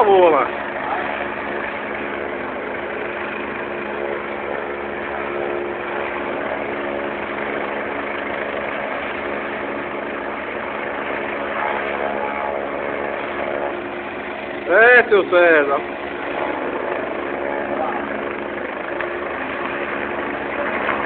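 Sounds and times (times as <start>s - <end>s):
helicopter engine hum: 0.0s - 21.0s.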